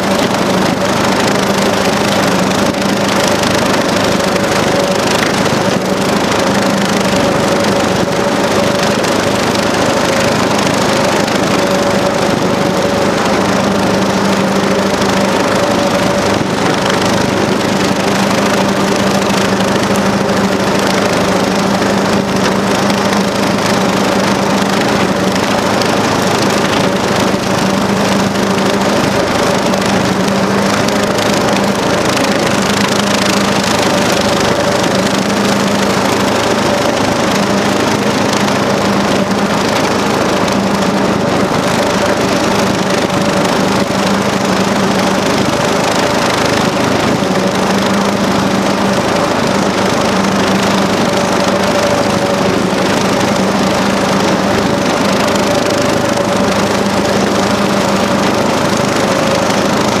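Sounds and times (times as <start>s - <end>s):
motor running steadily: 0.0s - 60.0s.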